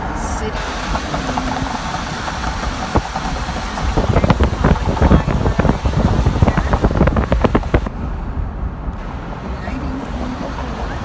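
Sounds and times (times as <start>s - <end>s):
low road rumble: 0.0s - 11.0s
wind buffeting microphone: 0.6s - 11.0s.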